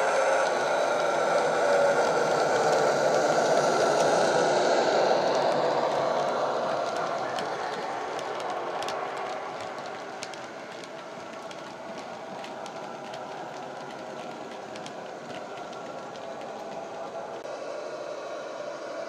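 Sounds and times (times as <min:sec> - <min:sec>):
model wagon wheels clicking on rails: 0:00.0 - 0:17.4.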